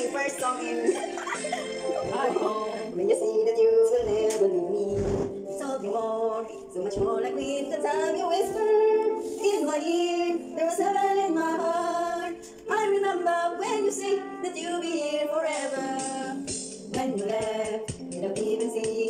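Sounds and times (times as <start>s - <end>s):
karaoke backing track: 0.0s - 19.0s
woman singing: 0.0s - 19.0s.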